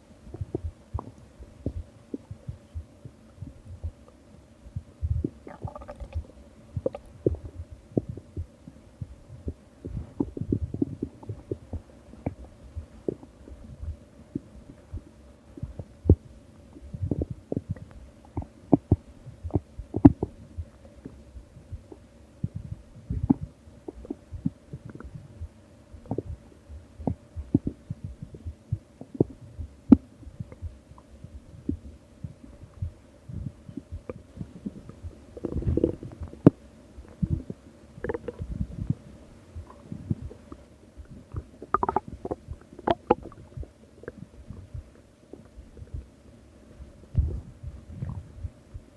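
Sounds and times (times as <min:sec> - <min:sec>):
stomach gurgling and rumbling: 0:00.0 - 0:46.2, 0:46.8 - 0:48.9
faint steady hum: 0:00.0 - 0:48.9.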